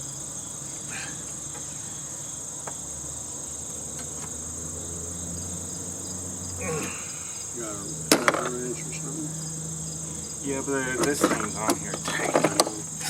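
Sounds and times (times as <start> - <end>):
insects droning: 0.0 - 13.0
lawn mower engine hum: 0.0 - 13.0.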